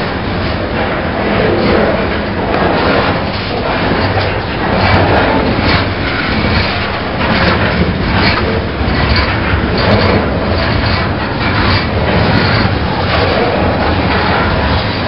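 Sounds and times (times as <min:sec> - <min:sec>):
train wheels rumbling on rails: 0:00.0 - 0:15.0
wheels knocking over rail joints: 0:01.5 - 0:15.0.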